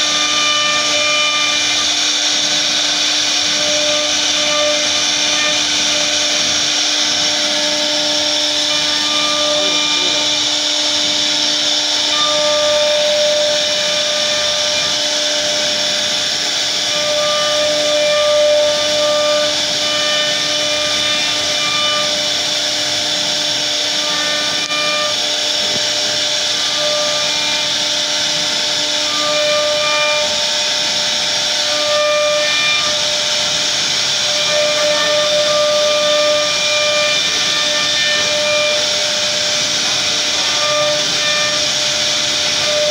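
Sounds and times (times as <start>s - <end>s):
router cutting wood hiss: 0.0s - 42.9s
router spindle whine: 0.0s - 42.9s.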